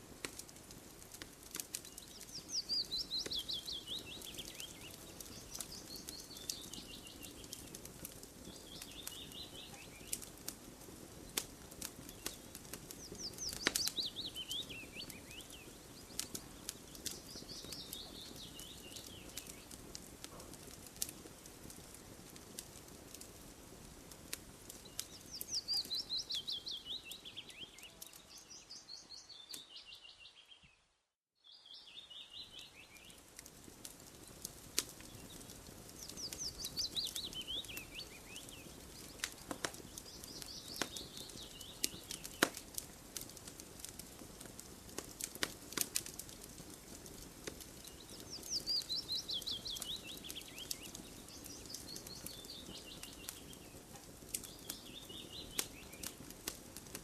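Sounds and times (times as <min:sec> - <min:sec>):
campfire crackling and popping: 0:00.0 - 0:30.0, 0:31.8 - 0:57.0.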